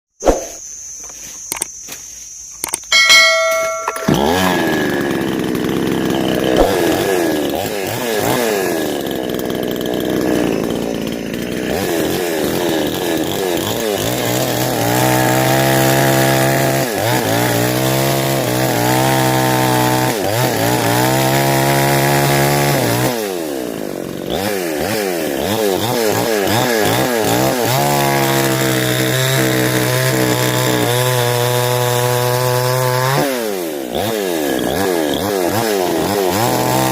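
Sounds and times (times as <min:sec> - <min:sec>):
chainsaw cutting wood: 0:02.6 - 0:36.9.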